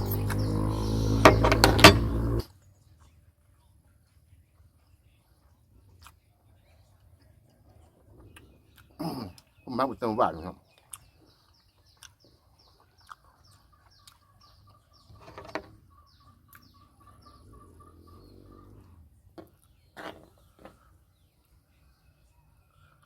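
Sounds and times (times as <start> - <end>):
bird chirping: 0.0 - 3.2, 6.6 - 23.0.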